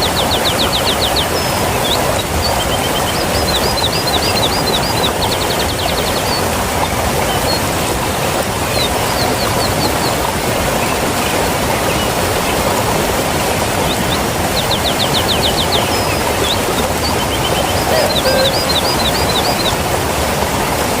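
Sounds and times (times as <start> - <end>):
birds chirping: 0.0 - 20.8
waterfall rushing: 0.0 - 21.0.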